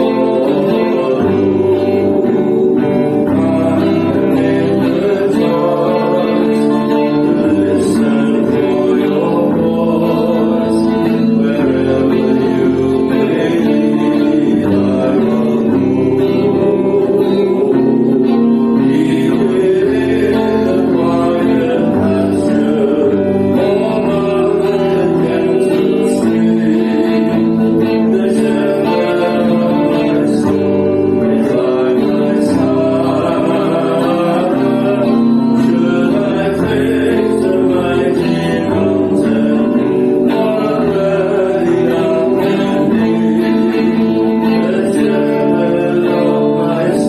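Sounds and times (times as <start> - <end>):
acoustic guitar strumming: 0.0 - 47.0
person singing: 0.0 - 47.0.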